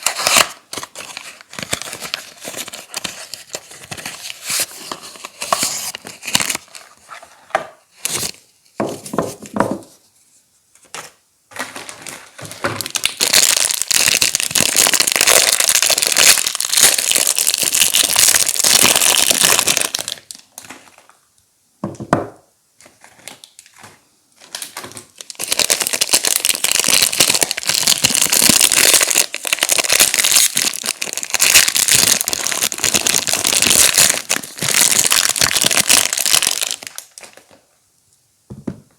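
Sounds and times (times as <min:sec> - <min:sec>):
wrappers crinkling and tearing: 0:00.0 - 0:08.4, 0:11.6 - 0:21.2, 0:22.8 - 0:37.7.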